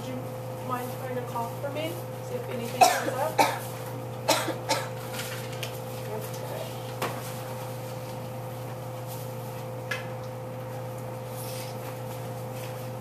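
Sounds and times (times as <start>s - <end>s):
hospital equipment hum: 0.0s - 13.0s.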